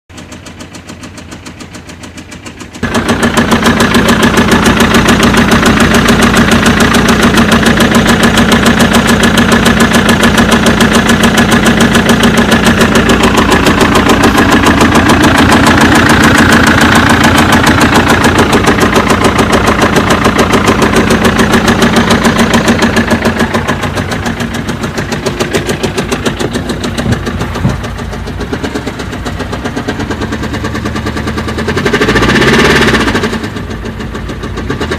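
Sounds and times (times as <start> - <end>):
car engine idling with tapping knock: 0.1 - 34.9.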